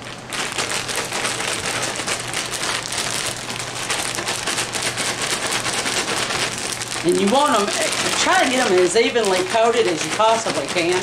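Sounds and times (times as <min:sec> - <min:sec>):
apple slices rattling in plastic bag: 0:00.0 - 0:11.0.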